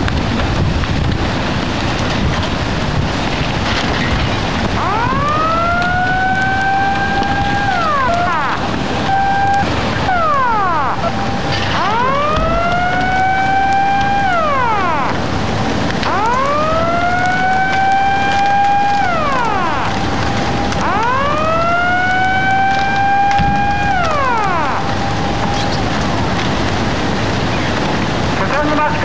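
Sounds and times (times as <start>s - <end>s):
steady rushing noise: 0.0s - 29.0s
warning siren wailing: 3.7s - 28.7s.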